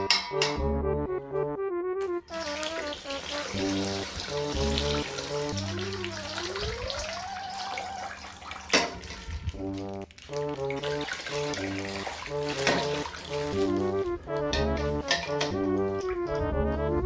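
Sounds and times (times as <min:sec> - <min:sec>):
cheerful background music: 0:00.0 - 0:17.0
water pouring and splashing: 0:02.2 - 0:16.5.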